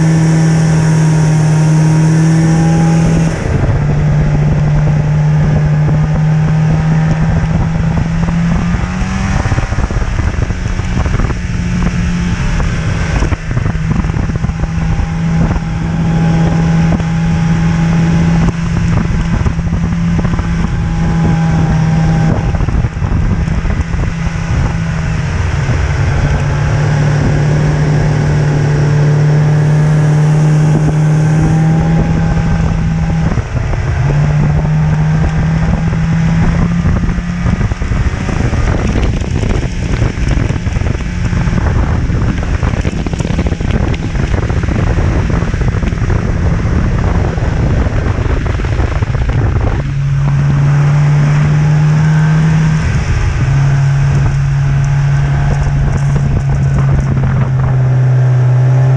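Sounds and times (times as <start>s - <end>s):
snowmobile engine running: 0.0s - 58.9s.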